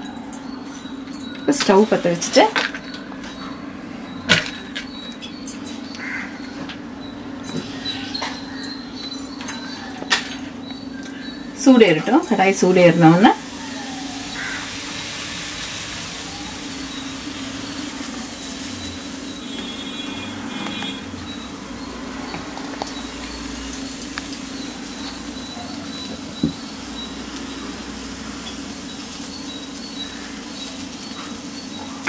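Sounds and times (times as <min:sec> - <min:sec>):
gas stove burner hissing: 0:01.5 - 0:09.3, 0:10.1 - 0:32.0.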